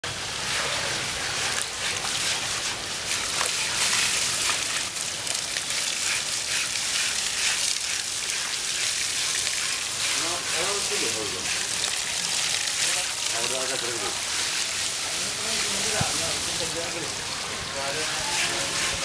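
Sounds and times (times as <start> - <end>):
hose water spraying and splashing: 0.0 - 19.0
scrubbing: 0.5 - 19.0.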